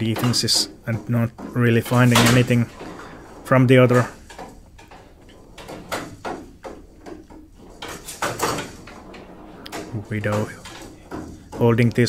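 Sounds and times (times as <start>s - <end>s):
rattling ball knocking: 0.0s - 12.0s.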